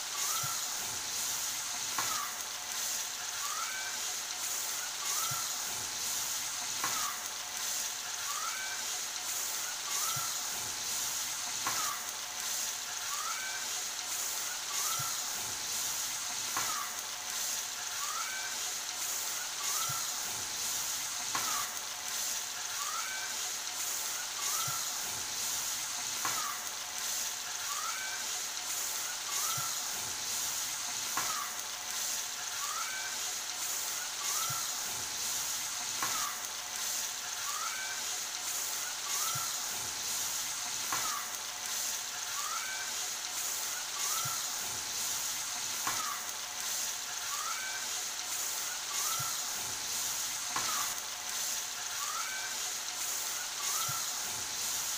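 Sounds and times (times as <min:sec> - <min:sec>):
fish sizzling in hot oil: 0:00.0 - 0:54.9.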